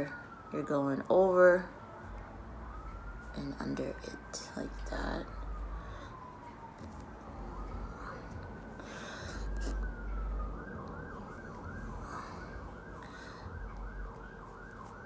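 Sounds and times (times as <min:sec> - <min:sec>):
emergency vehicle siren: 0:00.0 - 0:15.0.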